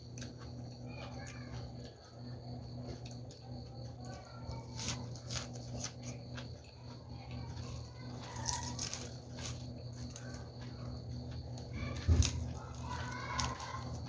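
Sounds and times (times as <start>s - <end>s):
chewing and crunching vegetables: 0.0s - 14.0s
steady electrical hum: 0.0s - 14.0s.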